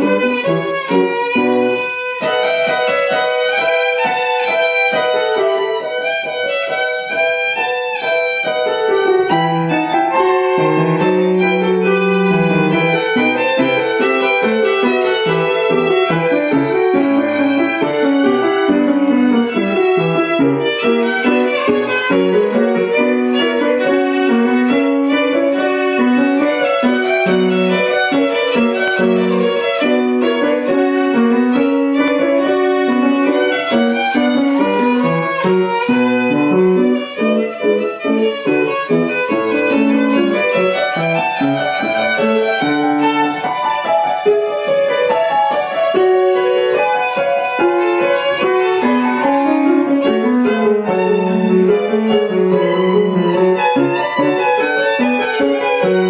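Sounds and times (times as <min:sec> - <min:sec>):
violin playing classical piece: 0:00.0 - 0:56.0.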